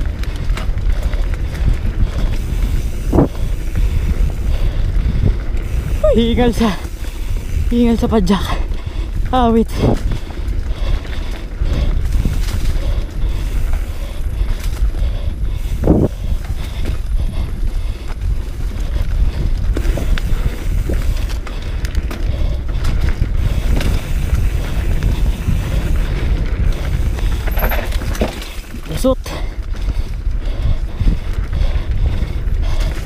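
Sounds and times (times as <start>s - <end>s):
bike clattering over dirt: 0.0s - 15.0s, 15.6s - 30.4s
wind buffeting microphone: 0.0s - 33.0s.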